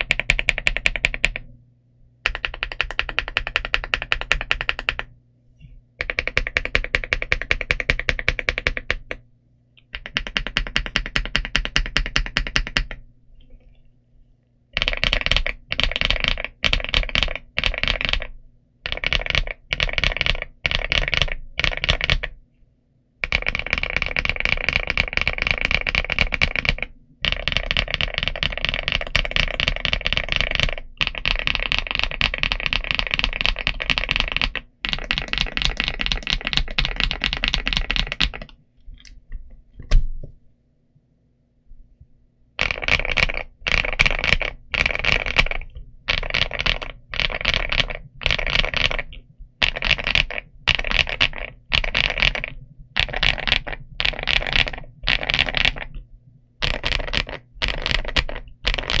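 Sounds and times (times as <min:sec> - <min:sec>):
typing on mechanical keyboard: 0:00.0 - 0:01.5, 0:02.2 - 0:05.1, 0:06.0 - 0:09.2, 0:09.8 - 0:13.0, 0:14.7 - 0:22.4, 0:23.2 - 0:38.6, 0:42.6 - 0:56.0, 0:56.6 - 0:59.0.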